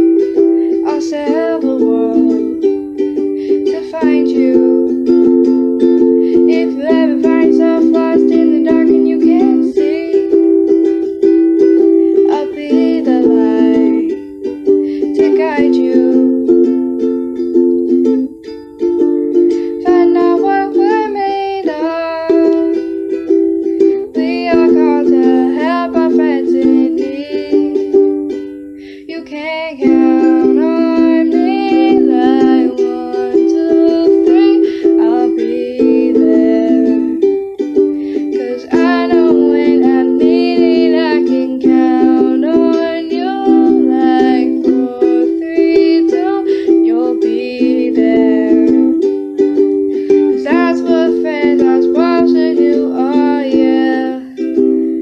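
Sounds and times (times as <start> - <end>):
girl singing: 0.0 - 55.0
ukulele strumming chords: 0.0 - 55.0.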